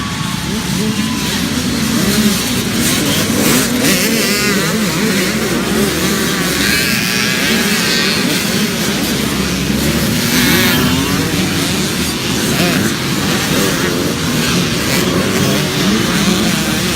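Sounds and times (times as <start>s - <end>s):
dirt bikes revving: 0.0s - 16.9s.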